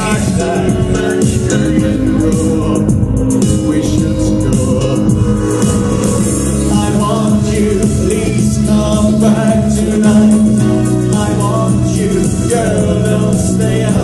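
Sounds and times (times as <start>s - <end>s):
electric keyboard: 0.0s - 14.0s
man singing into a microphone: 0.0s - 14.0s.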